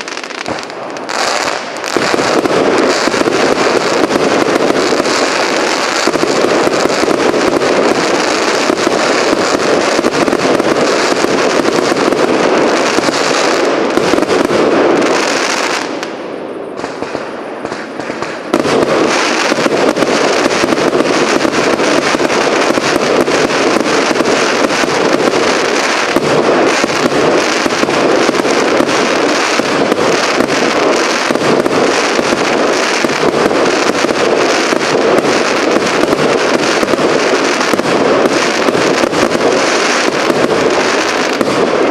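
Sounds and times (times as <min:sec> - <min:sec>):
firework barrage launching and bursting: 0:00.0 - 0:41.9.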